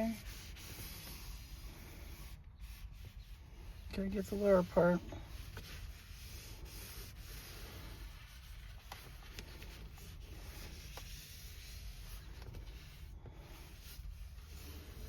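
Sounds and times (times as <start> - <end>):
cloth rubbing on trim: 0.0 - 15.0.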